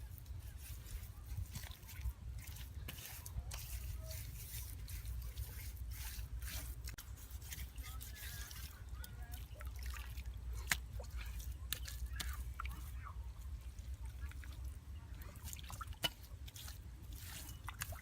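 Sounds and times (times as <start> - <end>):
small splashes: 0.0 - 18.0
water dripping and trickling: 0.0 - 18.0.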